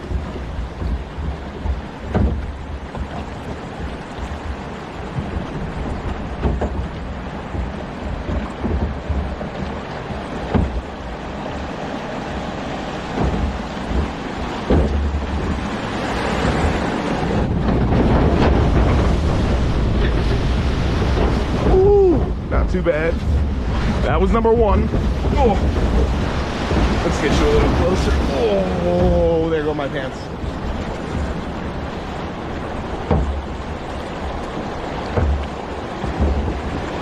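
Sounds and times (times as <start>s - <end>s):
log flume boat riding: 0.0s - 37.0s
log knocking against channel: 0.0s - 37.0s
water rushing: 0.0s - 37.0s
wind on microphone: 0.0s - 37.0s.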